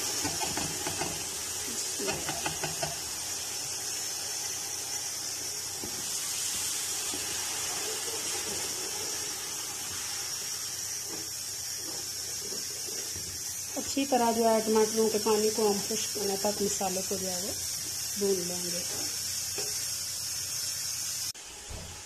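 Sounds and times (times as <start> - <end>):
tomato puree sizzling in oil: 0.0 - 21.8.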